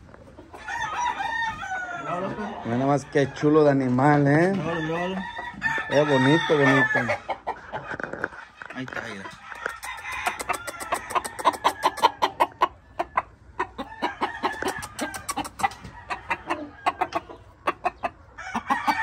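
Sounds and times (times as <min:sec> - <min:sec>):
rooster clucking: 0:00.1 - 0:19.0.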